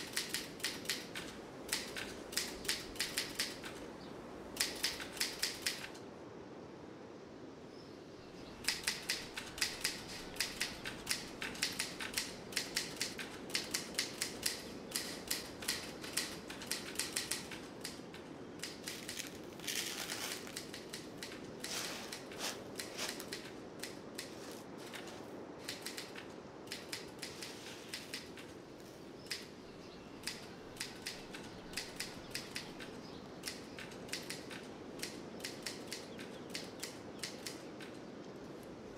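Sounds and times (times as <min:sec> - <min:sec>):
sharp dry clicks and taps: 0:00.0 - 0:03.9, 0:04.6 - 0:06.0, 0:08.6 - 0:19.4, 0:20.4 - 0:29.5, 0:30.2 - 0:38.1.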